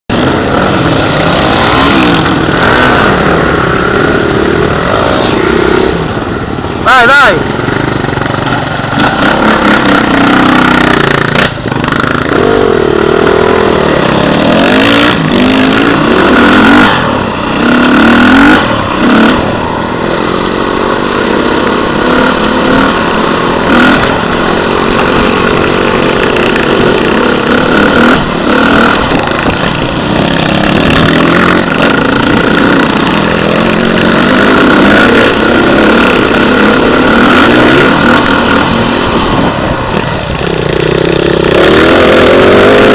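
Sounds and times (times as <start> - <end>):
motorcycle engine revving: 0.1 - 42.9.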